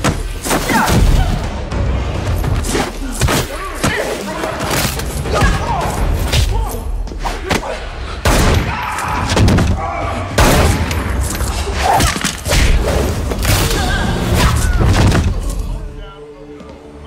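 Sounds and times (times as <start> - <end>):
dramatic music score: 0.0 - 17.0.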